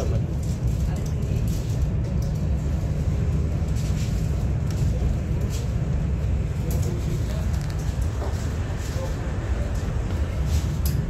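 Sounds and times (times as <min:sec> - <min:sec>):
train wheels on track: 0:00.0 - 0:11.0
air rushing past train: 0:01.5 - 0:11.0.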